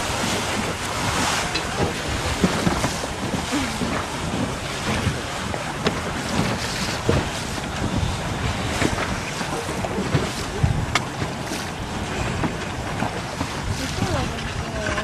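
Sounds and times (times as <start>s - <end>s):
strong wind buffeting microphone: 0.0s - 15.0s
water rushing and splashing: 0.0s - 15.0s.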